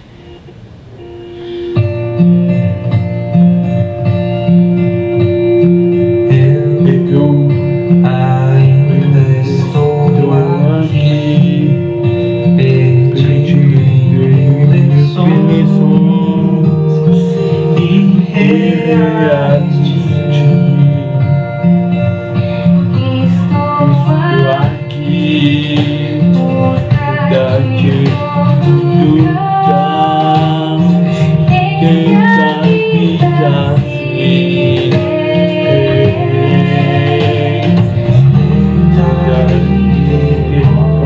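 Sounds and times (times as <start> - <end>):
acoustic guitar: 0.0 - 41.0
person singing slow song: 0.0 - 41.0.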